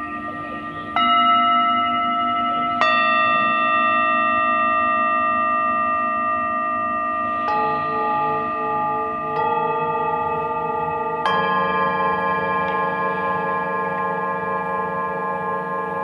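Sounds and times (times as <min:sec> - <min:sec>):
metal bells ringing: 0:00.0 - 0:16.0.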